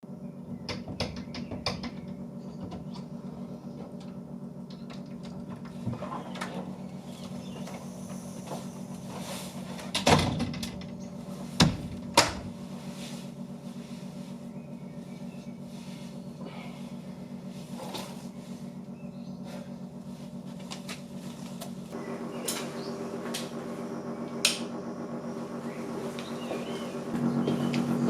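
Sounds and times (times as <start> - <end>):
low electrical hum: 0.1 - 28.0.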